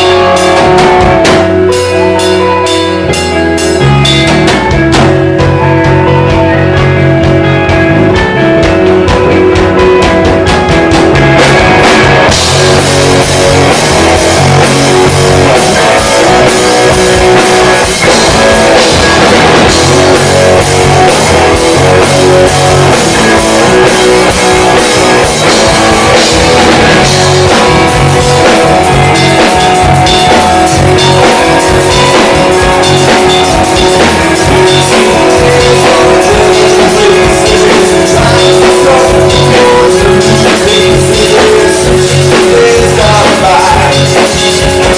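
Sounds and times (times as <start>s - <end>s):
drum kit: 0.0s - 44.9s
loud electric guitar: 0.0s - 44.9s.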